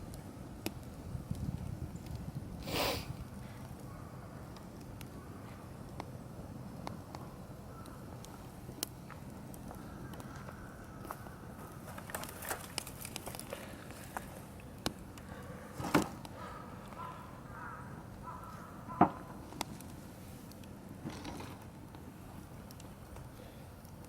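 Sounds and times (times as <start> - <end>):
sharp snaps of fire: 0.0 - 17.0, 19.3 - 24.0
wood fire crackling: 0.0 - 24.0.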